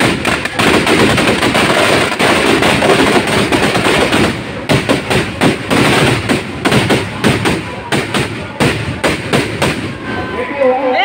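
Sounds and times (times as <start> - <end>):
firecrackers banging and crackling: 0.0 - 11.0.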